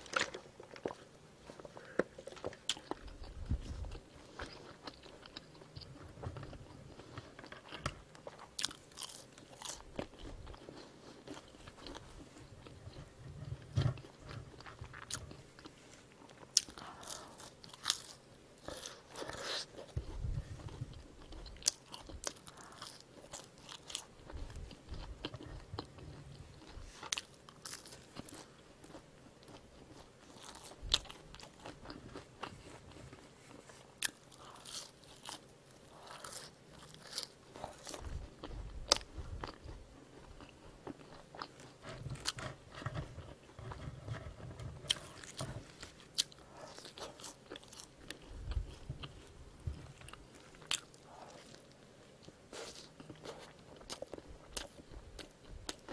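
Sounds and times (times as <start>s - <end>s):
chewing crunchy fries: 0.0s - 55.9s.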